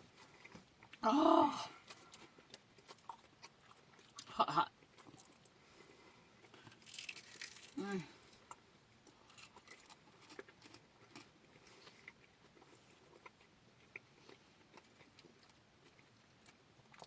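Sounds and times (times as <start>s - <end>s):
faint chewing of food: 0.0s - 1.0s, 1.7s - 17.0s.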